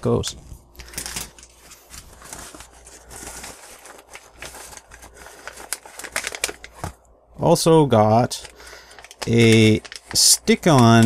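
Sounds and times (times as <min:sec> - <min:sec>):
paper mailer crinkling: 0:00.7 - 0:07.0, 0:08.2 - 0:11.0.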